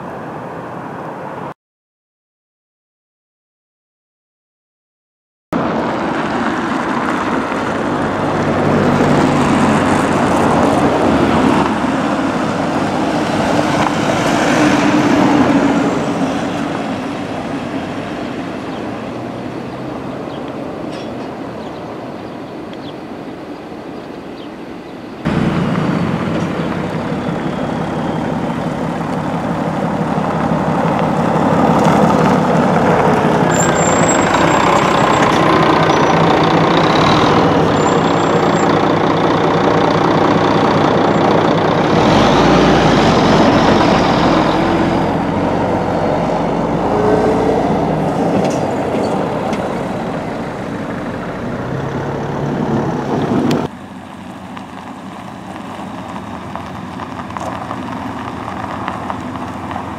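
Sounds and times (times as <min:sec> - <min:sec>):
coach diesel engine pulling away: 0:05.6 - 0:24.4, 0:25.0 - 0:59.9.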